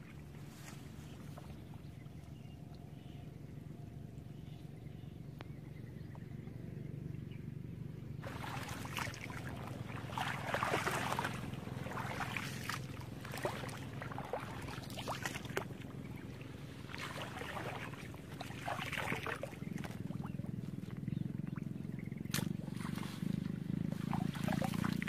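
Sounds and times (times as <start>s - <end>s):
wading through muddy water: 0.0s - 5.3s, 8.1s - 25.0s
steady low hum: 0.0s - 25.0s.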